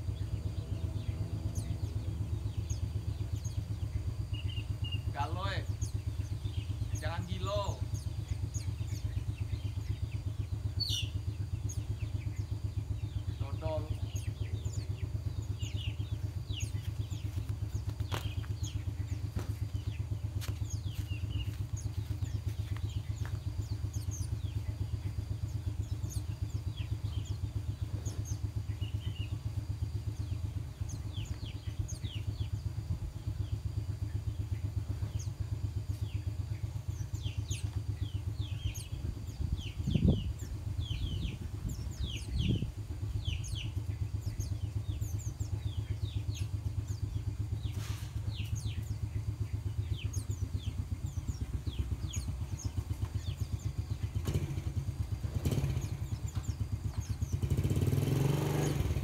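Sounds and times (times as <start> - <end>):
fast-pulsing low drone: 0.0 - 59.0
small birds chirping: 0.0 - 59.0.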